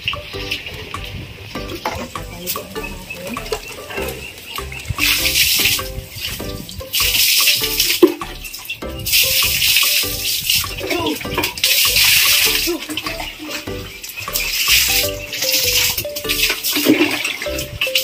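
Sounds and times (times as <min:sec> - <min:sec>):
water splashing on concrete: 0:00.0 - 0:18.0.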